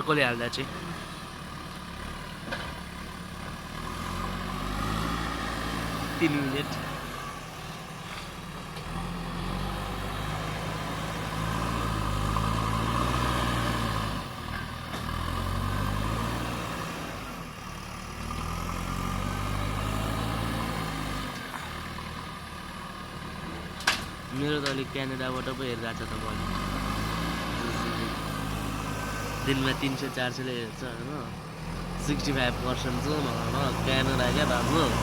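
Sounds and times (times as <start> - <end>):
diesel engine revving: 0.0 - 35.0.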